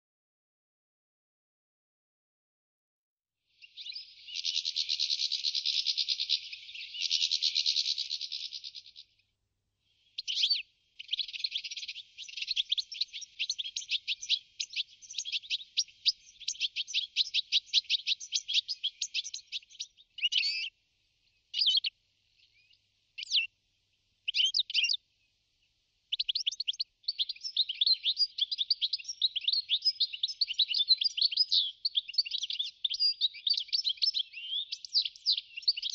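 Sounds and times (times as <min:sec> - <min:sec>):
bird twittering song: 0:03.6 - 0:09.2, 0:09.9 - 0:23.6, 0:24.2 - 0:35.9.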